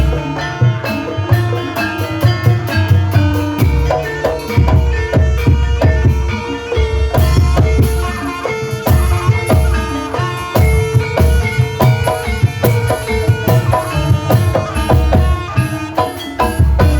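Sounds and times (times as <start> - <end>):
hand drums beating: 0.0 - 16.9
struck pitched instruments ringing: 0.0 - 16.9.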